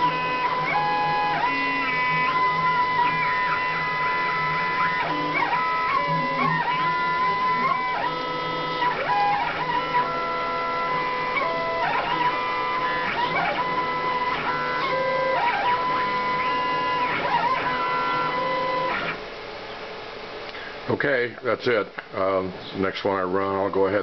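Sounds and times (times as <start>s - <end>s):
stepper motors whining: 0.0s - 19.2s.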